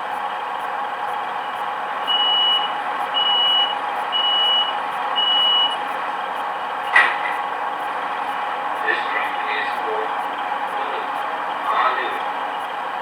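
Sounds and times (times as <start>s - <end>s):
diesel engine idling: 0.0s - 13.0s
high door-warning beeps: 1.4s - 12.7s.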